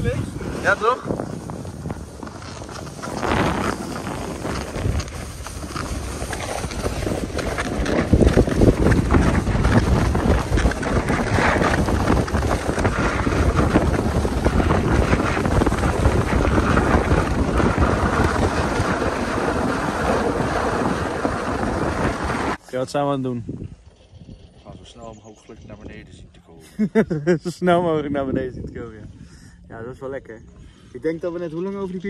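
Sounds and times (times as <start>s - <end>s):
wind buffeting microphone: 0.0s - 26.6s, 27.3s - 32.0s.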